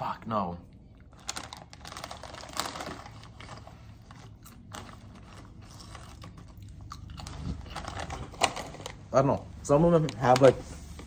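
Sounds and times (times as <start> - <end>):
plastic bags crinkling: 1.1 - 11.0.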